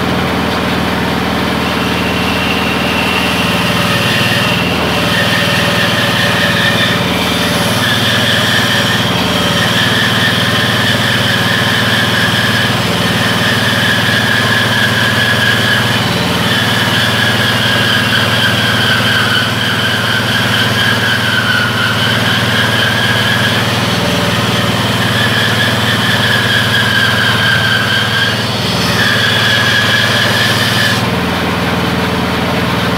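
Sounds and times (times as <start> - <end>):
bandsaw blade whining through wood: 0.0 - 32.9
small petrol engine running: 0.0 - 32.9.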